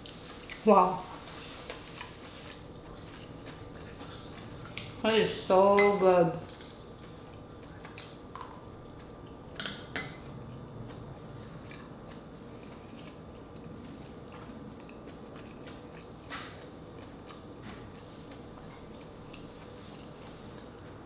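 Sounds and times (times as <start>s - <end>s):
person chewing: 0.0s - 5.0s, 6.4s - 20.8s.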